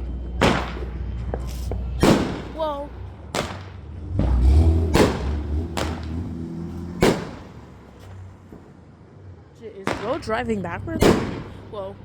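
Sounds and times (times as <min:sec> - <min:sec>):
fireworks bangs: 0:00.0 - 0:08.9, 0:09.8 - 0:12.0.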